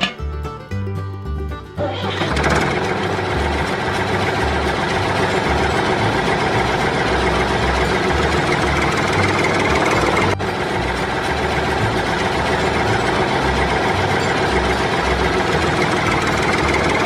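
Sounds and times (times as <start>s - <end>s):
small tractor engine running: 1.8s - 17.0s.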